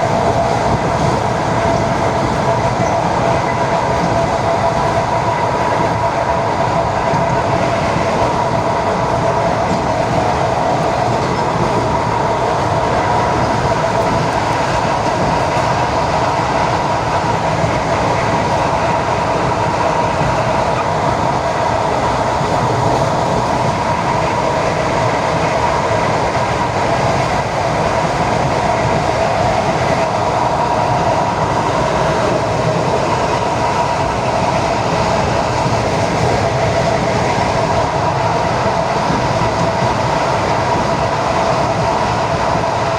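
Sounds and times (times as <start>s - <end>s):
train running rumble: 0.0s - 42.9s.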